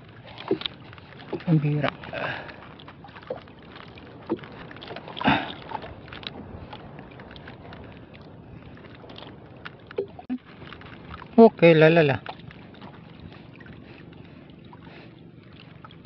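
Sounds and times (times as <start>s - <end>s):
water lapping against boat hull: 0.0s - 16.0s
wind: 0.0s - 16.0s.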